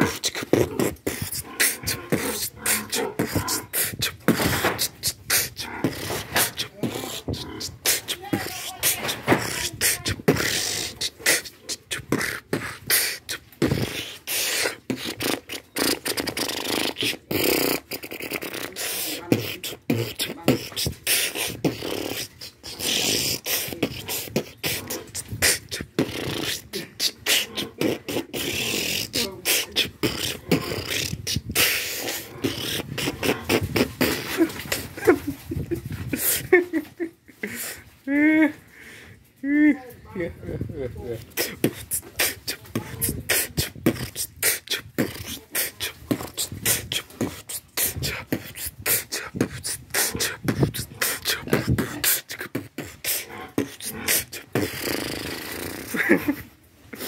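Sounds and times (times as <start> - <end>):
person beatboxing: 0.0 - 38.6, 40.6 - 57.0.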